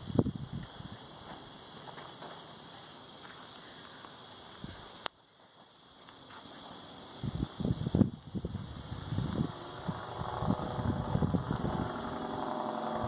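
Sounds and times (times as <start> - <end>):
campfire hissing and crackling: 0.0 - 13.0.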